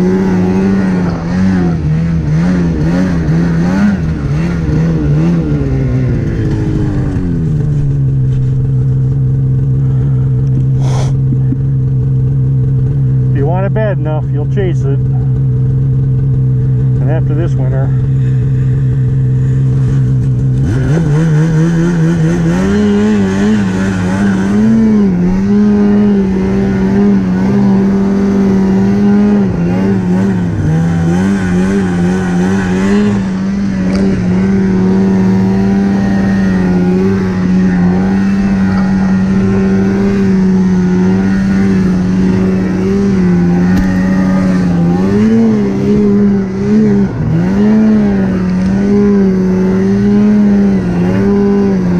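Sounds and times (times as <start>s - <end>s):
snowmobile engine revving: 0.0s - 51.9s.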